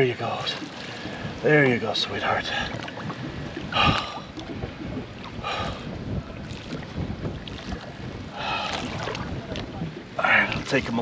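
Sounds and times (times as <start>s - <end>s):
water sloshing against boat: 0.0s - 11.0s
wind rumbling on microphone: 0.0s - 11.0s.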